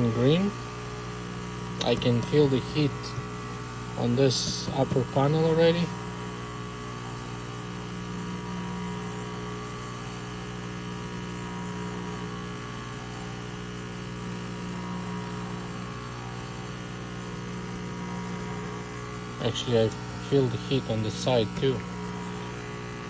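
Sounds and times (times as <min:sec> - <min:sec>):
espresso machine pump humming: 0:00.0 - 0:23.0.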